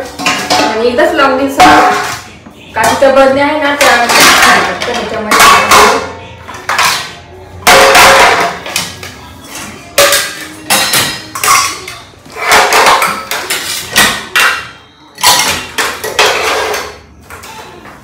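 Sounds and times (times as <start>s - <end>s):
dishes clanking: 0.0s - 1.0s, 3.7s - 18.0s.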